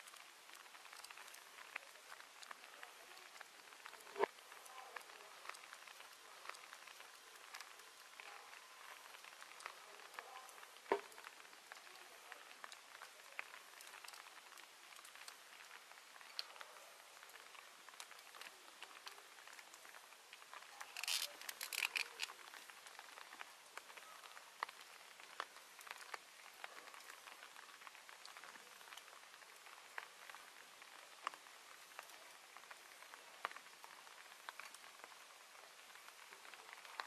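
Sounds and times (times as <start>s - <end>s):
crackles: 0.0s - 37.0s
faint steady hiss: 0.0s - 37.0s.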